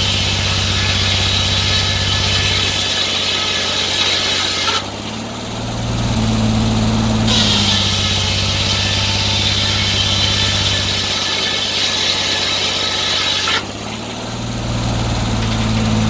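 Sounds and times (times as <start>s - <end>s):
saw blade cutting log: 0.0s - 16.0s
sawmill engine running: 0.0s - 16.0s.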